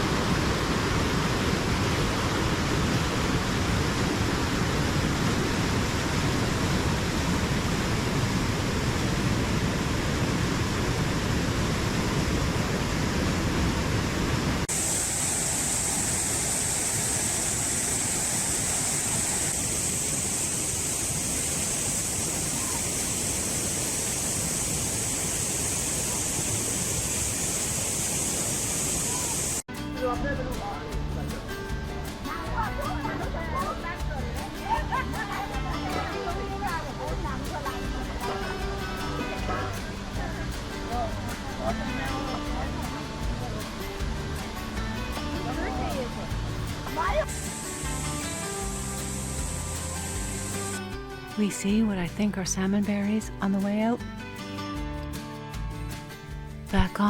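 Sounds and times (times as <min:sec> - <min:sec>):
waterfall rushing: 0:00.0 - 0:29.7, 0:31.1 - 0:51.3.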